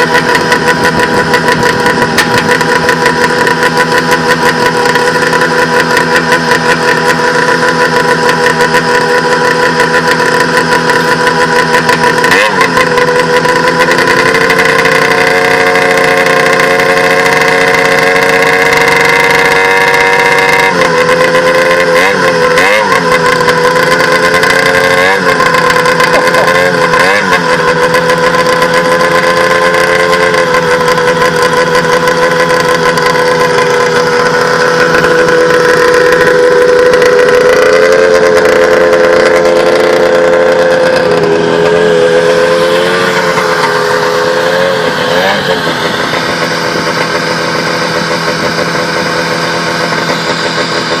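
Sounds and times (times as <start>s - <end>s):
snowmobile engine running: 0.0s - 51.0s.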